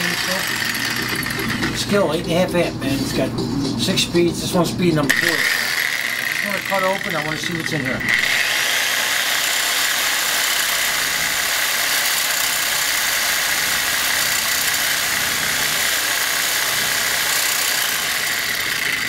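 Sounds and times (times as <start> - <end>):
electric saw cutting steel: 0.0 - 2.3, 5.1 - 19.0.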